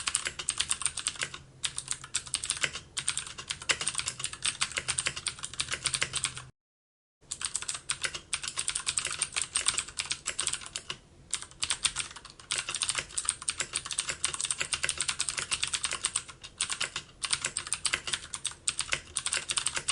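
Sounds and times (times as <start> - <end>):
typing on computer keyboard: 0.0 - 6.5, 7.3 - 19.9.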